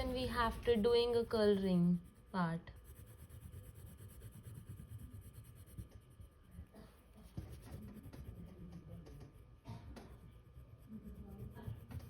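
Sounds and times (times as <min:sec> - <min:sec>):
crayon scribbling on paper: 0:00.0 - 0:12.0.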